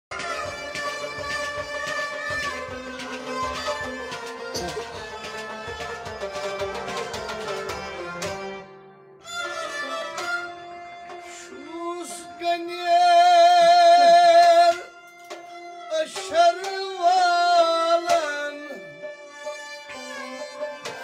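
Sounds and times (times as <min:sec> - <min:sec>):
bowed and plucked strings: 0:00.1 - 0:21.0.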